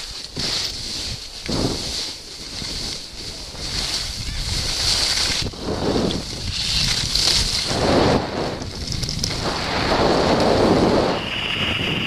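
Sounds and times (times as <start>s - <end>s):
skis sliding on snow: 0.0s - 12.0s
wind buffeting microphone: 0.0s - 12.0s.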